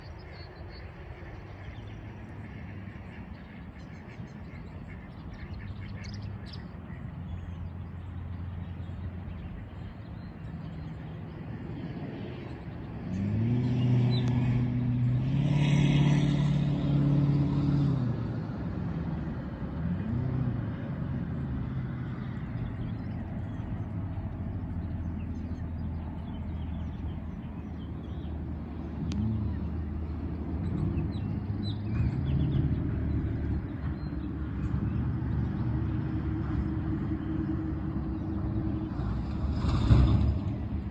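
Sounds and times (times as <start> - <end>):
vehicle engine hum: 0.0 - 40.9
vehicle passing by: 0.0 - 40.9.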